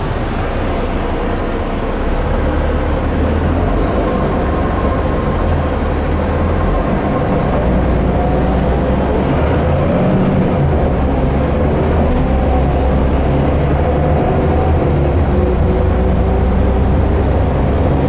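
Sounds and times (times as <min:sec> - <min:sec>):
bus diesel engine: 0:00.0 - 0:18.0
road rumble: 0:00.0 - 0:18.0.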